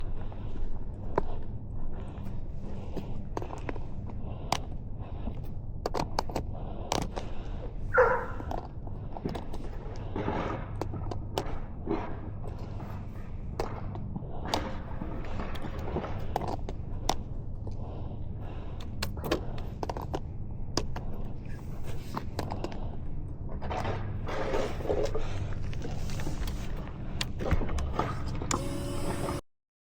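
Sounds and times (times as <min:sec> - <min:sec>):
heavy breathing: 0:00.0 - 0:29.3
steady low hum: 0:00.0 - 0:29.4.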